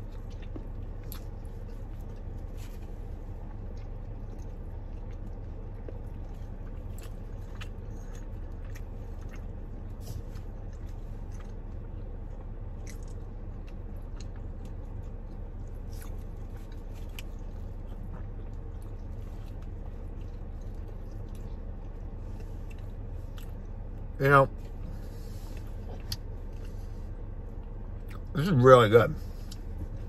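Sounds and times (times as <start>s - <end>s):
chewing and biting: 0.0s - 28.3s
car cabin hum: 0.0s - 30.0s.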